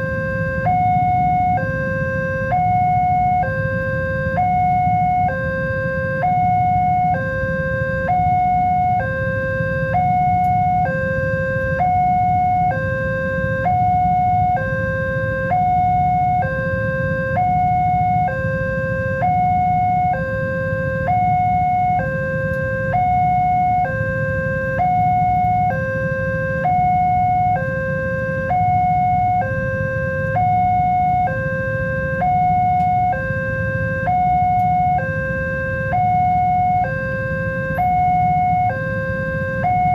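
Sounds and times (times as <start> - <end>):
two-tone level-crossing alarm: 0.0 - 39.9.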